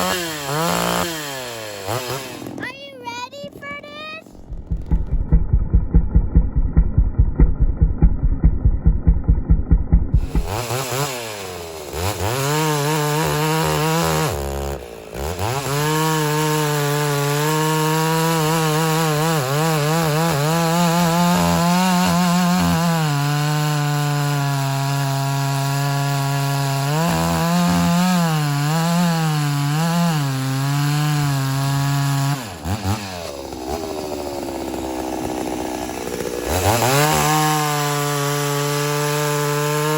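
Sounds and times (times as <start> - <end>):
chainsaw cutting wood: 0.0 - 8.2, 9.0 - 39.9.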